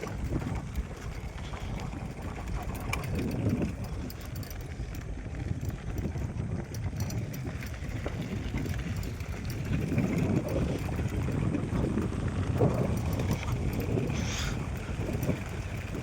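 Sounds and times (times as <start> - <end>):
moving vehicle rumble: 0.0 - 16.0
wind buffeting microphone: 0.0 - 16.0.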